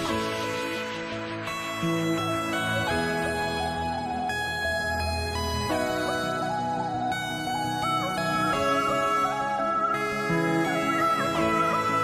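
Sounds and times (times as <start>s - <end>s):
background music melody: 0.0s - 12.0s.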